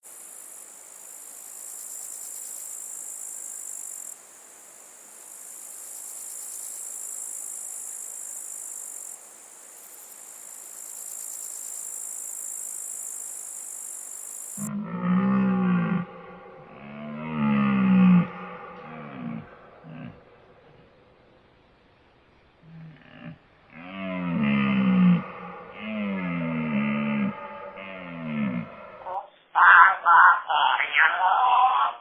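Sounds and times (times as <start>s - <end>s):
high-pitched insect chorus: 0.0s - 29.2s.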